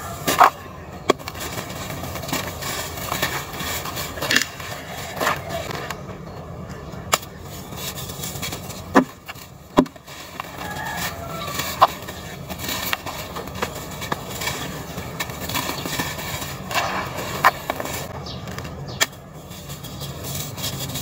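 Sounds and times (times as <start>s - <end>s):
dirt lumps snapping: 0.0s - 6.0s, 7.0s - 19.3s
dry dirt crumbling: 0.0s - 21.0s.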